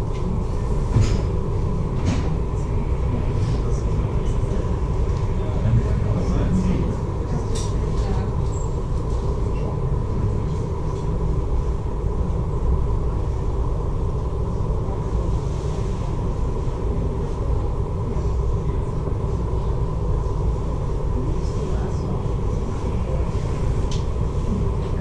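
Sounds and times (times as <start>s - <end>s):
faint steady hum: 0.0s - 25.0s
ship engines rumbling: 0.0s - 25.0s.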